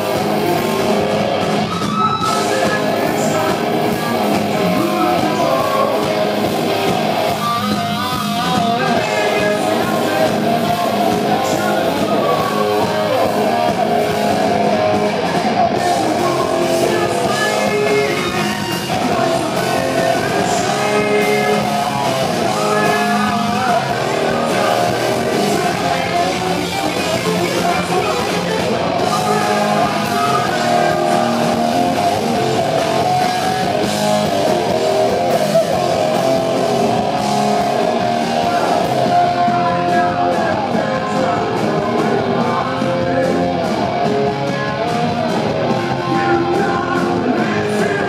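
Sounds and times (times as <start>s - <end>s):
bass guitar: 0.0s - 48.0s
drums: 0.0s - 48.0s
electric guitar: 0.0s - 48.0s.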